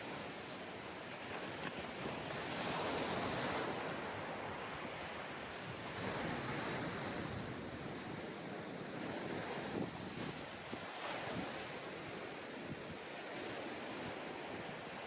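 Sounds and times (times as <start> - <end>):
sea waves breaking on beach: 0.0 - 15.0
wind on microphone: 1.4 - 15.0.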